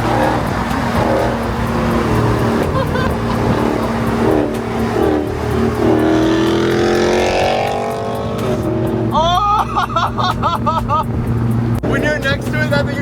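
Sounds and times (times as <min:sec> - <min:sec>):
loud car exhaust accelerating: 0:00.0 - 0:13.0.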